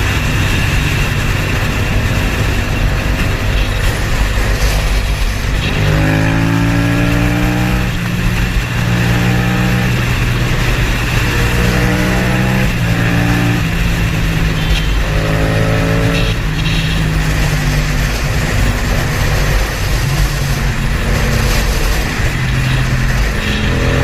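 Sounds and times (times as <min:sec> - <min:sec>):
vehicle engine accelerating hard: 0:00.0 - 0:24.0.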